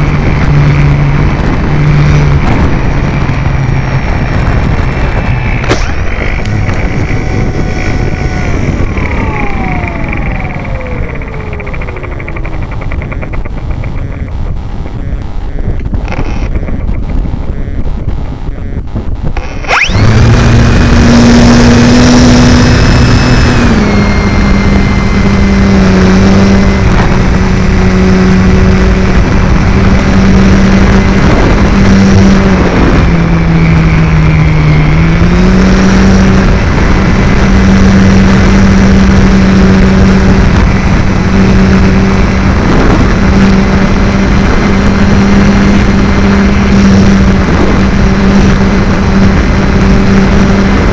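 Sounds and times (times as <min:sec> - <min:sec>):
electric motor and propeller whine: 0:00.0 - 0:50.9.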